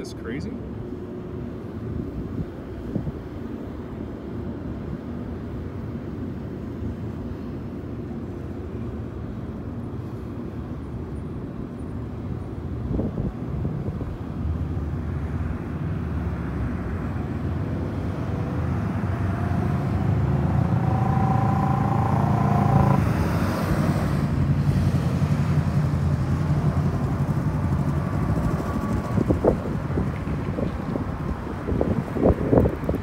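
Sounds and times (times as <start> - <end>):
traffic rumble: 0.0 - 33.0
vehicle passing with engine whine: 3.2 - 33.0.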